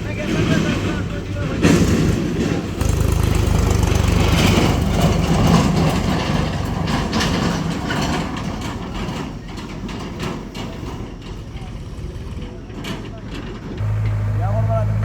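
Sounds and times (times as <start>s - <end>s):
heavy diesel engine droning: 0.0s - 9.2s, 11.2s - 15.0s.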